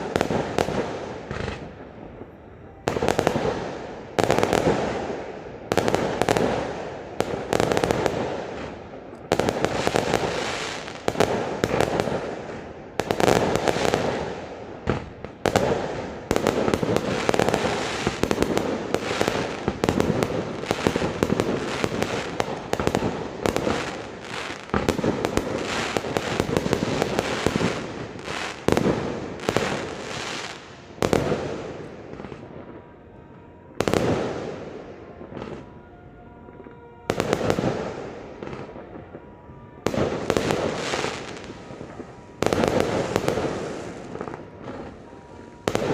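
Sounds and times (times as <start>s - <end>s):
fireworks bursting and crackling: 0.0s - 35.8s, 36.5s - 45.9s.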